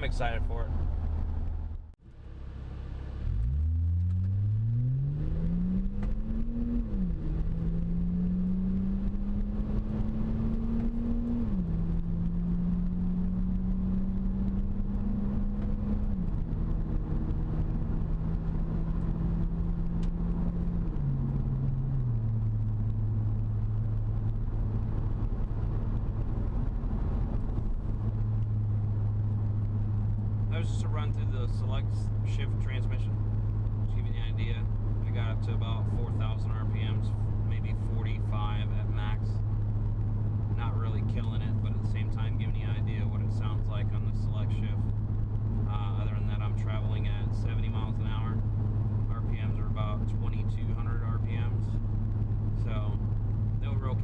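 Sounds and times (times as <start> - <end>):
car exhaust accelerating through gears: 0.0 - 54.0.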